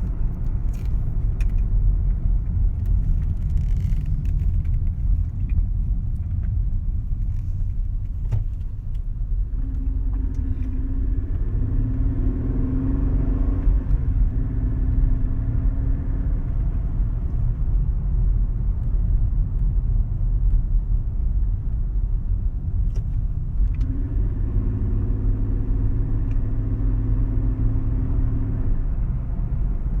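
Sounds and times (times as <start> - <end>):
car engine grumbling unevenly: 0.0 - 30.0.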